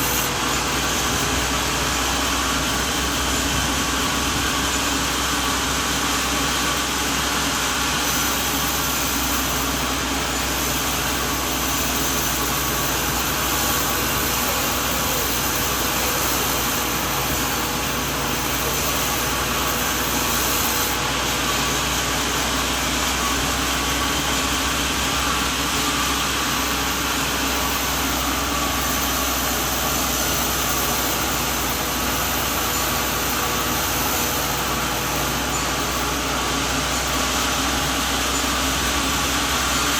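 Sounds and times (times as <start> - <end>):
sawmill engine drone: 0.0 - 39.9
steady machinery hiss: 0.0 - 39.9.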